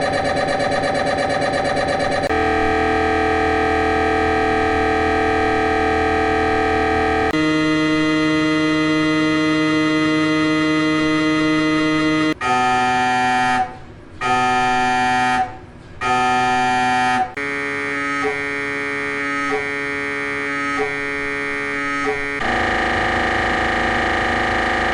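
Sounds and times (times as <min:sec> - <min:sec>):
mri scanner buzzing: 0:00.0 - 0:12.6, 0:16.8 - 0:24.9
harsh buzz: 0:00.0 - 0:24.9.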